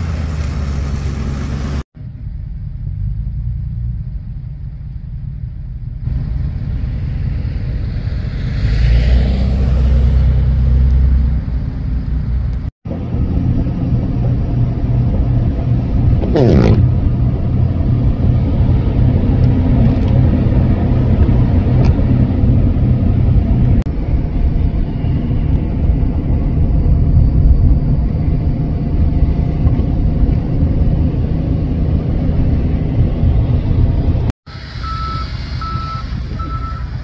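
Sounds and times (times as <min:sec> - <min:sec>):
car driving on snowy road: 0:00.0 - 0:37.0.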